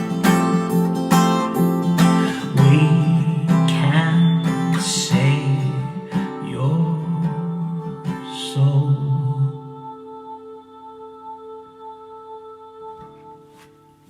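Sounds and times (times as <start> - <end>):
acoustic guitar playing: 0.0 - 11.4, 12.8 - 14.0.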